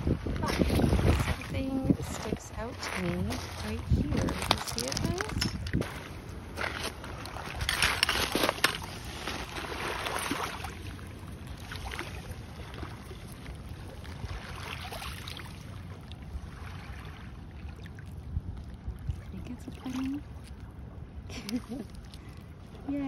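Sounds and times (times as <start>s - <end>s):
small waves lapping over pebbles: 0.0s - 23.0s.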